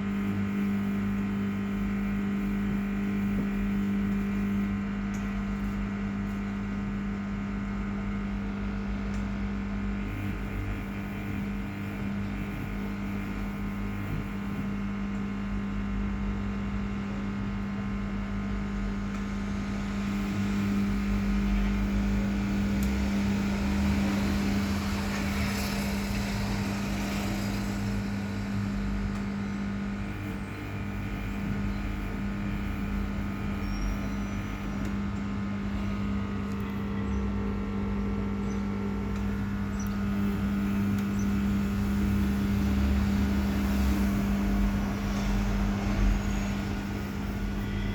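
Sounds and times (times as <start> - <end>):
washing machine running: 0.0 - 47.9.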